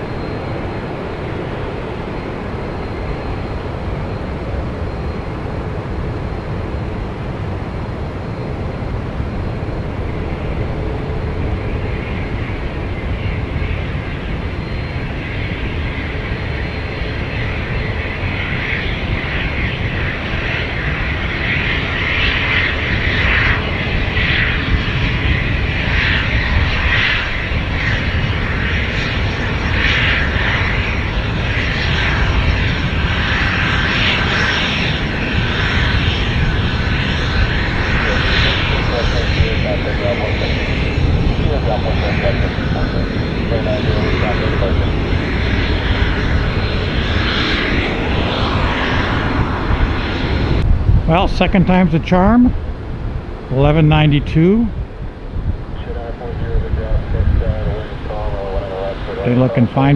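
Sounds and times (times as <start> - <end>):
jet engine rushing: 0.0 - 59.9.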